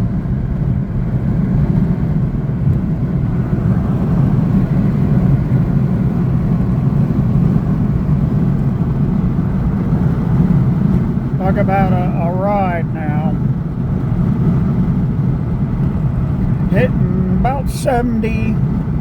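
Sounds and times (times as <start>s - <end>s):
road noise rumble: 0.0s - 19.0s.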